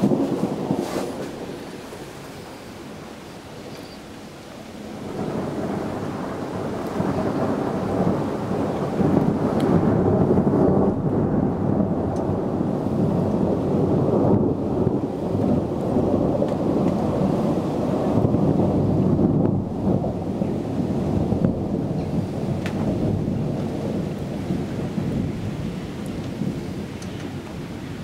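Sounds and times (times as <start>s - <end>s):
rolling thunder: 0.0s - 28.0s.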